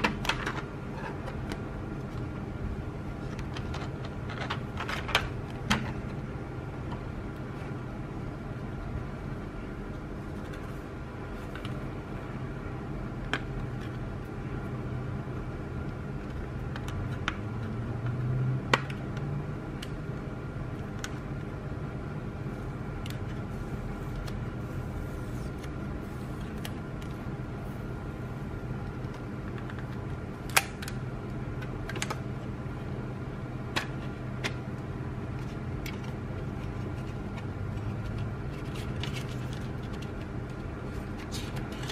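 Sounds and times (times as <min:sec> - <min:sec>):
steady hum: 0:00.0 - 0:41.9.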